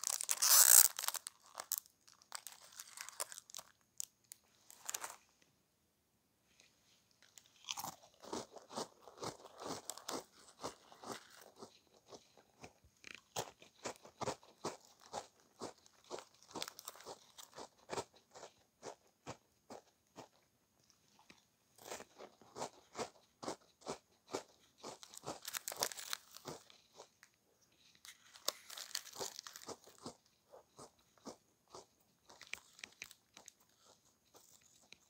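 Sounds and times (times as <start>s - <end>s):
crunching a crisp snack: 0.0s - 5.2s, 7.1s - 35.0s.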